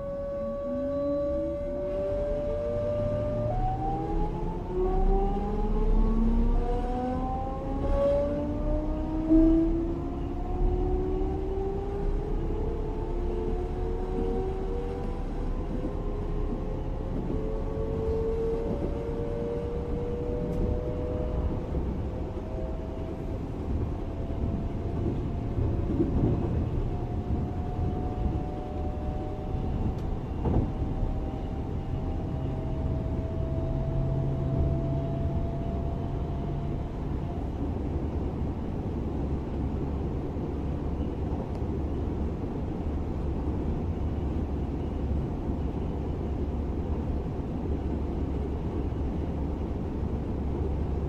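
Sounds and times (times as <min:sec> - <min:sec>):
electric train traction whine: 0:00.0 - 0:50.9
train rumbling on rails: 0:00.0 - 0:51.0.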